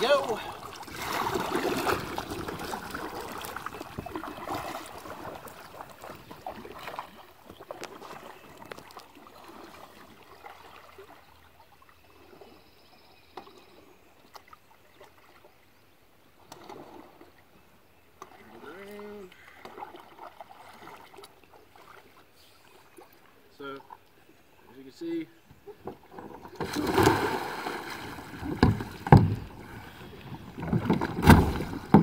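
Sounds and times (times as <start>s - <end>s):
kayak paddle splashing: 0.0s - 12.6s, 16.4s - 24.3s, 25.6s - 32.0s
water sloshing along hull: 0.0s - 32.0s.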